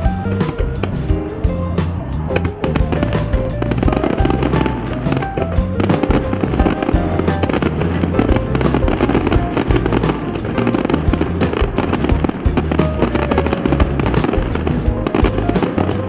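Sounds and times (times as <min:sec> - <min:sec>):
fireworks bursting and crackling: 0:00.0 - 0:16.0
loud music: 0:00.0 - 0:16.0.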